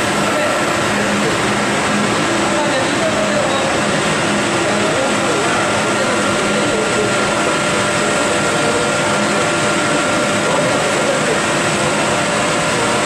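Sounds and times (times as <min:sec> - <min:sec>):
burner rushing noise: 0:00.0 - 0:13.0.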